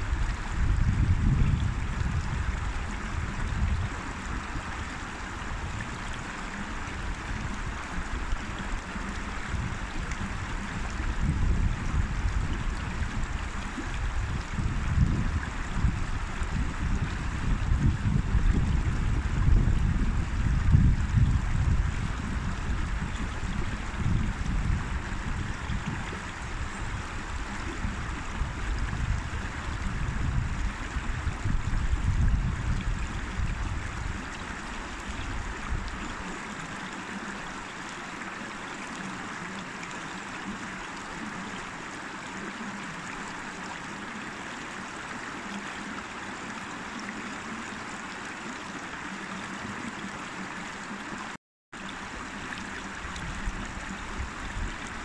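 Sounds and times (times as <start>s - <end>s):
river water rushing over rocks: 0.0s - 18.2s, 18.9s - 55.0s.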